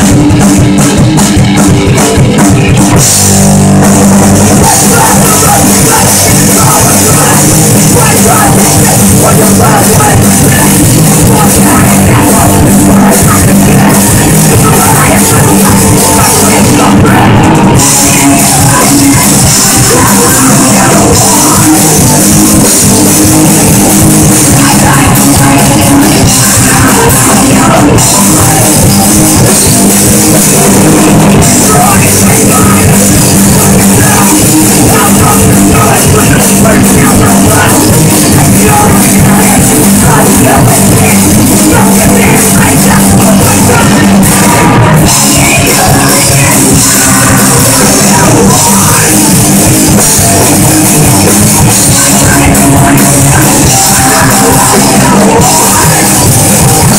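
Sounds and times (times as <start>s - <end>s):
distorted electric guitars: 0.0s - 56.9s
pounding drum kit: 0.0s - 56.9s
sung vocals: 0.0s - 56.9s.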